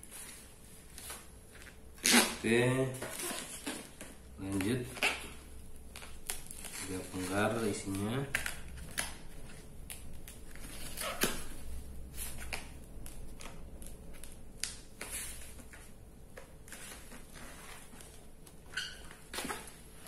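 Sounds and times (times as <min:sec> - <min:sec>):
plastic wrapping crinkling: 0:00.0 - 0:20.0.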